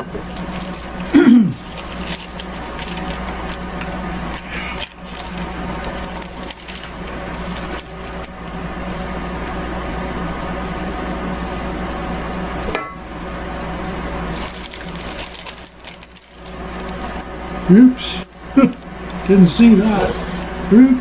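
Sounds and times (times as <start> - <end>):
food dehydrator humming: 0.0 - 21.0.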